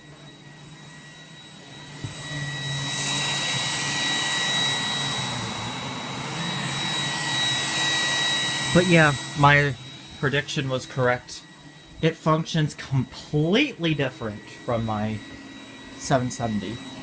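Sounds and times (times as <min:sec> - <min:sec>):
robot vacuum fan whine: 0:00.0 - 0:17.0.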